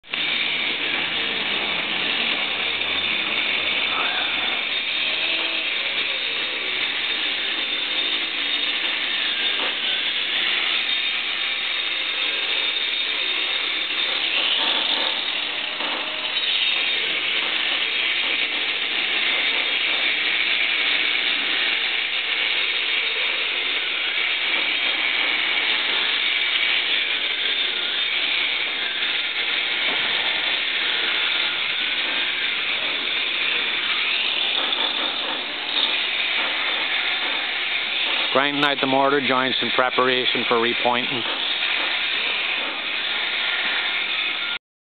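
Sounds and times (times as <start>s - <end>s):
angle grinder cutting mortar: 0.1s - 44.6s.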